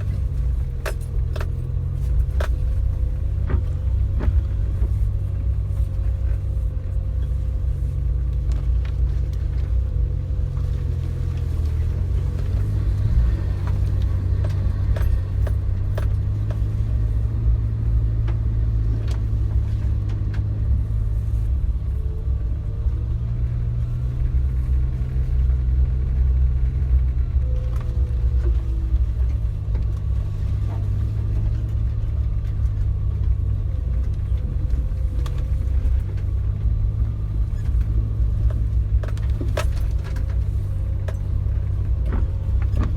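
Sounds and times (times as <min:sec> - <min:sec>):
light rattles and clicks: 0:00.0 - 0:42.9
vehicle engine rumble: 0:00.0 - 0:42.9.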